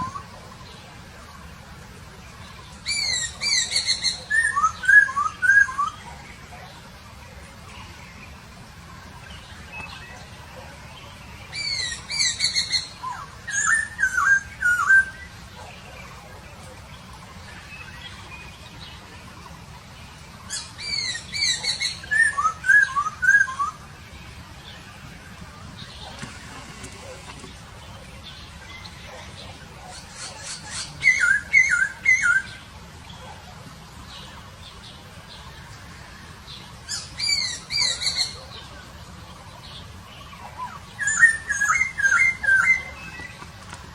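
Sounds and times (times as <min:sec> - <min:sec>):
bird chirping: 0:00.0 - 0:01.3, 0:02.1 - 0:43.9.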